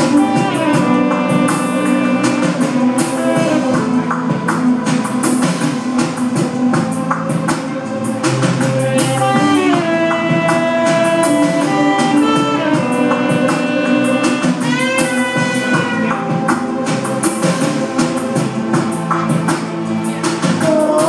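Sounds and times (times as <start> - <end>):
electronic percussive beat: 0.0 - 21.0
sliding synth notes: 0.0 - 21.0.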